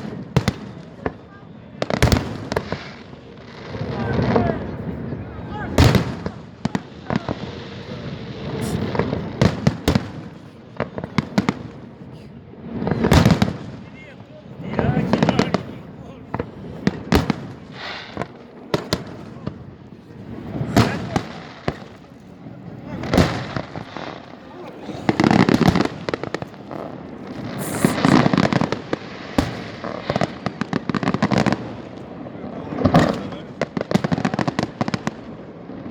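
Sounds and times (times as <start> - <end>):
fireworks bangs: 0.0 - 35.9.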